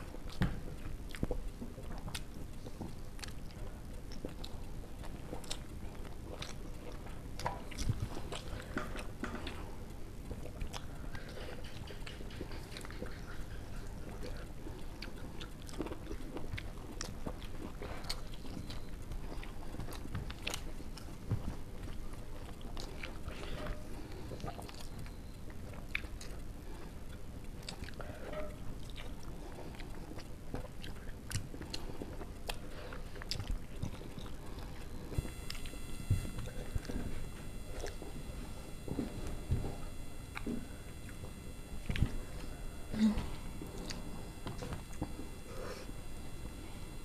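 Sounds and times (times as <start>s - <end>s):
faint hum: 0.0s - 47.0s
person chewing: 0.0s - 47.0s.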